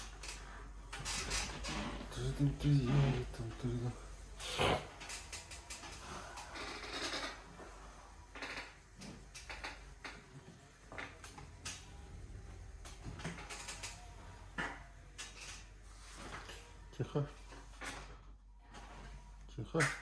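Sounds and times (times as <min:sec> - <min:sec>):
wheelchair motor hum: 0:00.0 - 0:19.4
wheelchair clicks and creaks: 0:00.0 - 0:20.0.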